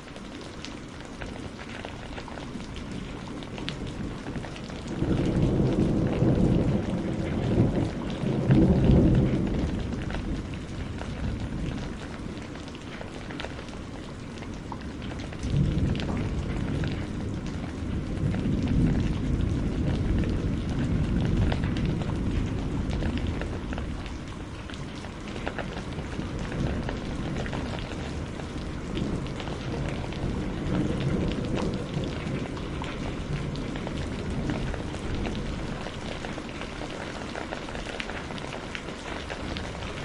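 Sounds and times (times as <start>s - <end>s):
heavy rain pouring: 0.0s - 40.0s
deep thunder rumble: 3.7s - 12.5s, 13.4s - 38.5s.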